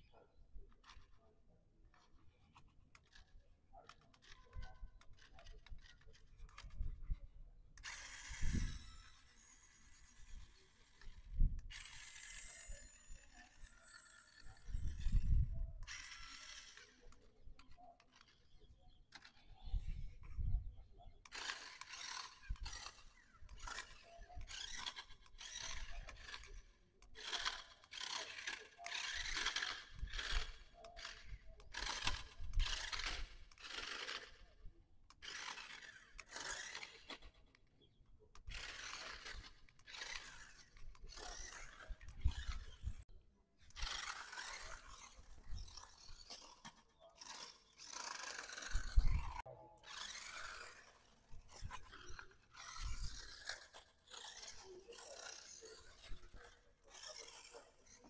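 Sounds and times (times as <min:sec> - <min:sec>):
toy electric motor and gearbox whirring: 0:00.0 - 0:58.0.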